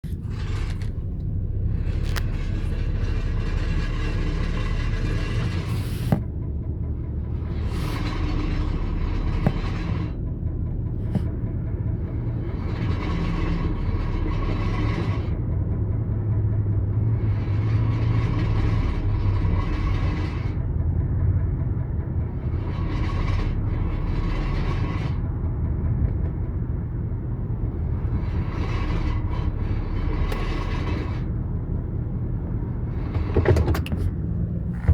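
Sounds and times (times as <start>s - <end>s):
brake rattling and thumping: 0.0s - 34.9s
car low rumble: 0.0s - 34.9s.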